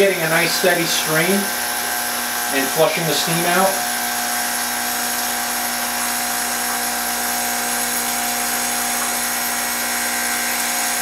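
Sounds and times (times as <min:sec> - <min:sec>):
espresso machine pump running: 0:00.0 - 0:11.0
water hissing from steam wand: 0:00.0 - 0:11.0.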